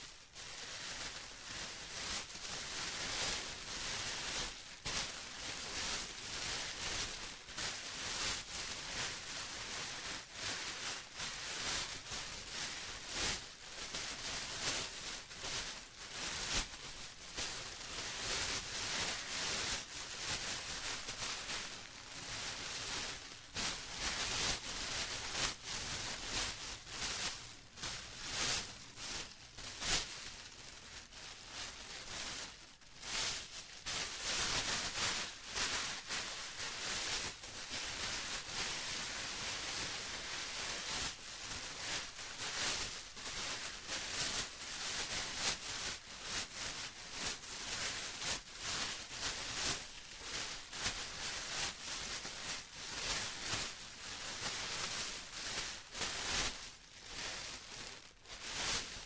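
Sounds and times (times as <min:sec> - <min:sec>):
plastic crinkled by hand: 0:00.0 - 0:59.0.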